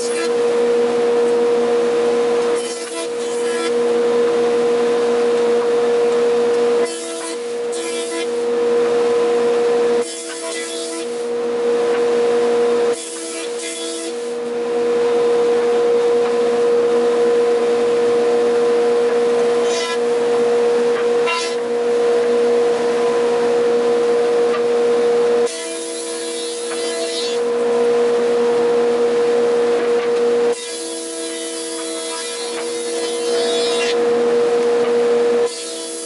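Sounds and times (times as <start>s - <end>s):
woodworking machine humming: 0.0s - 36.0s.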